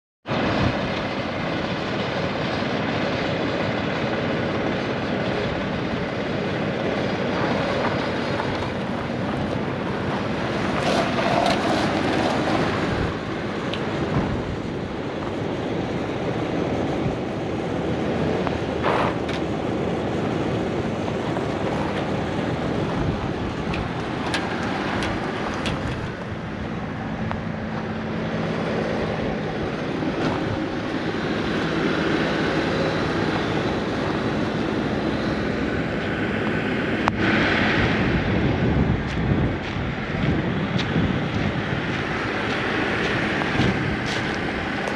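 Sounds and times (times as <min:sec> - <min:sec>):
small truck engine running: 0:00.3 - 0:44.9.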